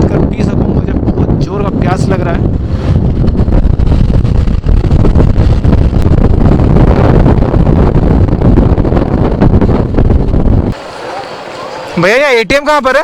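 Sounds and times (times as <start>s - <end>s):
wind buffeting microphone: 0.0s - 12.0s
motorcycle road and engine noise: 0.0s - 12.4s.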